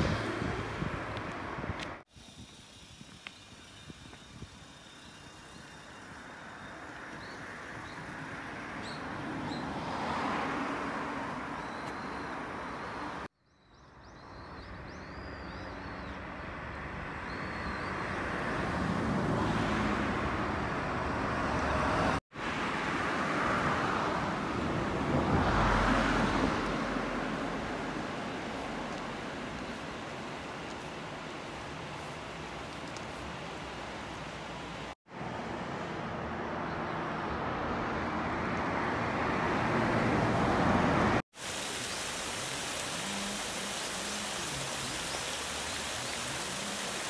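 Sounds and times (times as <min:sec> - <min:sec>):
cars passing: 0:00.0 - 0:02.0, 0:05.7 - 0:13.3, 0:15.7 - 0:47.0.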